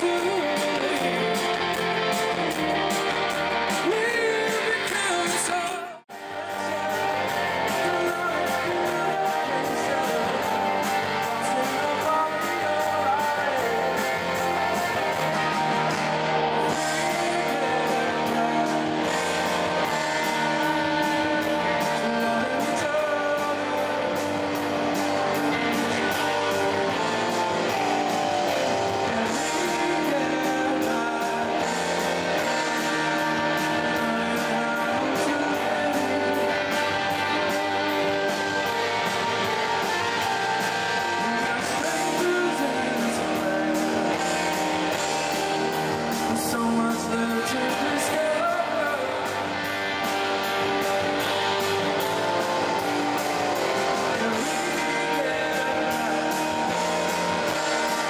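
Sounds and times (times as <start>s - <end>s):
amplified electric guitar: 0.0s - 58.0s
man singing: 0.0s - 58.0s.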